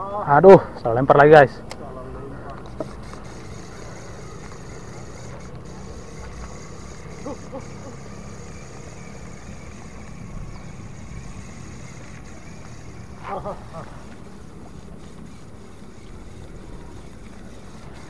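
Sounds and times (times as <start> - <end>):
low outdoor rumble: 1.4 - 18.0.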